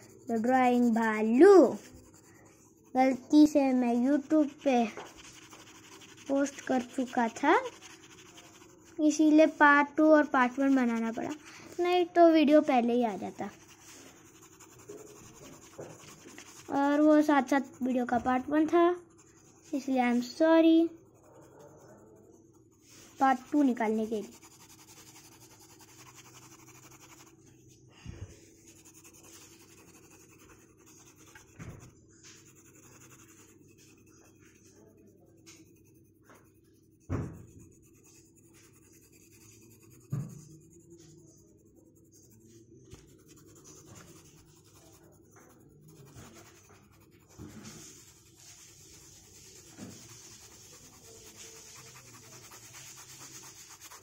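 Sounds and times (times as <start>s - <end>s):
pencil scratching on paper: 0.0s - 54.0s.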